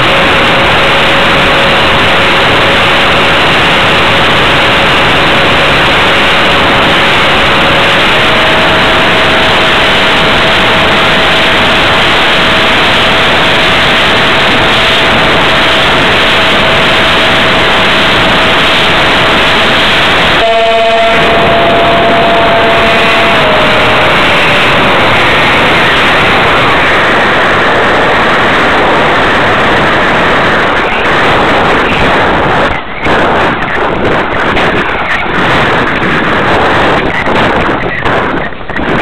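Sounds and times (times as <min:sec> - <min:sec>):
wind and propeller rush: 0:00.0 - 0:39.0.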